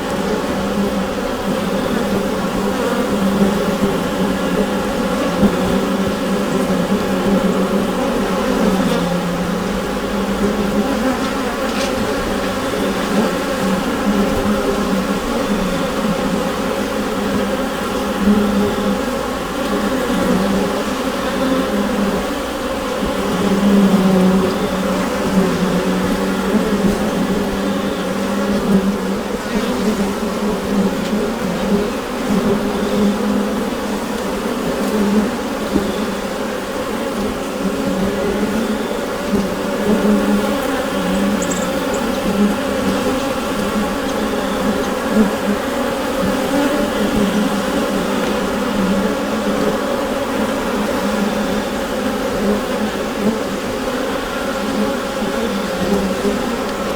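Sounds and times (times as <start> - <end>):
bees buzzing in a hive: 0.0 - 56.9.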